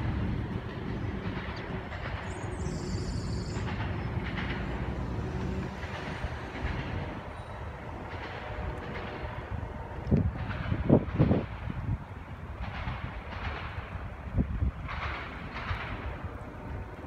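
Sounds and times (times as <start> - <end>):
freight train passing: 0.0 - 17.0
high train squeal: 0.0 - 17.0.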